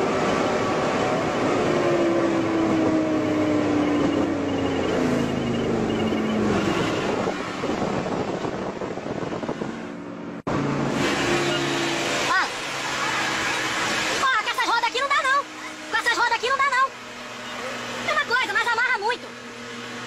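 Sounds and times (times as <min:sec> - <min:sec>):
wind and tyre noise: 0:00.0 - 0:18.4
car engine from inside cabin: 0:00.0 - 0:20.0.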